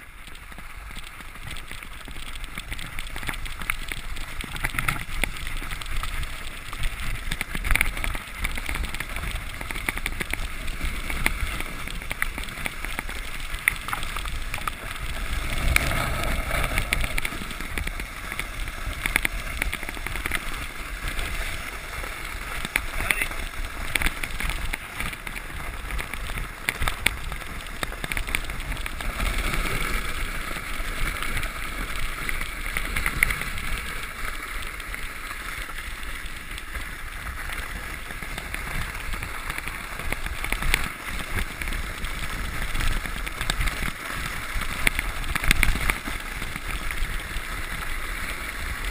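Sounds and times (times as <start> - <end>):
sled scraping on snow: 4.0 - 48.9.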